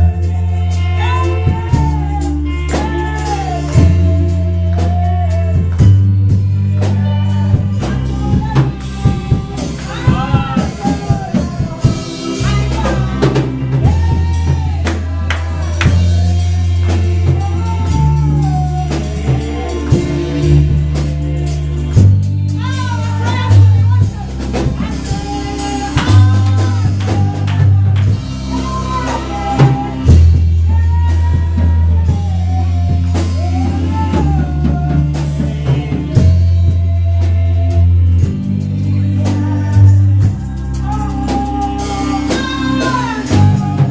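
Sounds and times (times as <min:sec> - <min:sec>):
deep bass notes: 0:00.0 - 0:43.9
drum kit: 0:00.0 - 0:43.9
person singing: 0:00.0 - 0:43.9.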